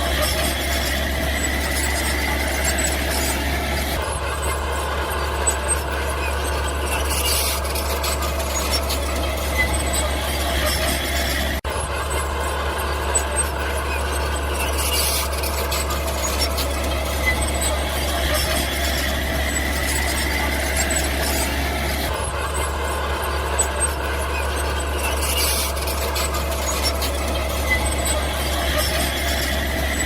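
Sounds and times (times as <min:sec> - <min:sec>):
bulldozer tracks squealing: 0:00.0 - 0:30.0
low engine rumble: 0:00.0 - 0:30.0.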